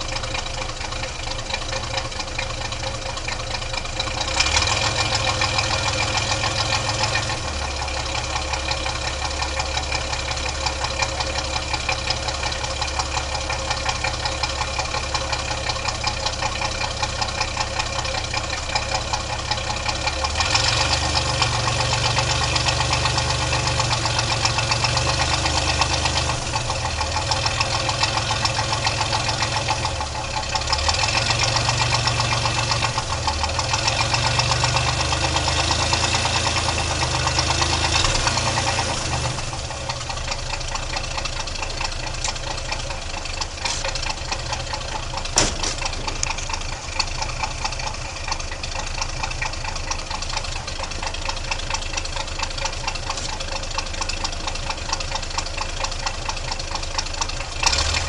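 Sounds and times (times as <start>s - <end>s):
pickup truck engine exhaust: 0.0s - 58.0s.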